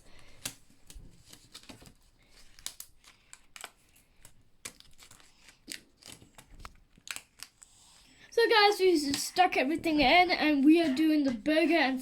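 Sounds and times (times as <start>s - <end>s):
plastic stencils clicking and crinkling: 0.0s - 12.0s.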